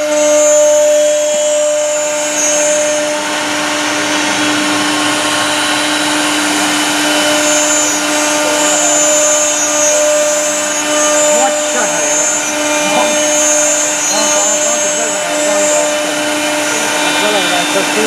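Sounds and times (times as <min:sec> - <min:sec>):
router spindle whine: 0:00.0 - 0:18.0
wood cutting hiss: 0:00.0 - 0:18.0.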